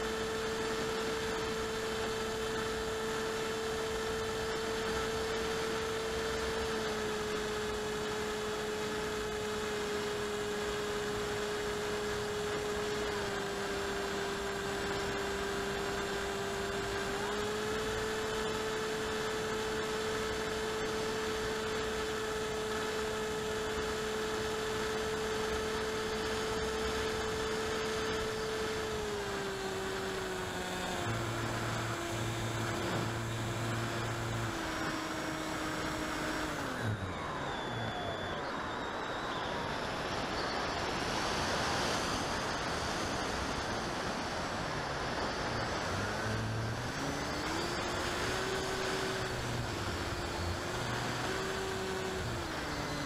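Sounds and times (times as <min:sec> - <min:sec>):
model aircraft motor droning: 0:00.0 - 0:53.0.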